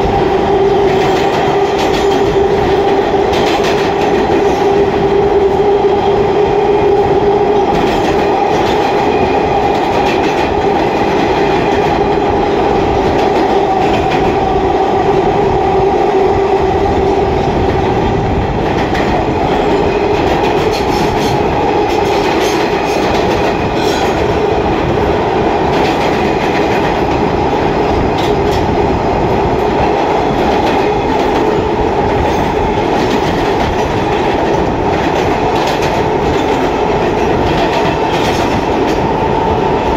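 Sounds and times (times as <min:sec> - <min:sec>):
subway car wheels rumbling on rail: 0:00.0 - 0:39.9.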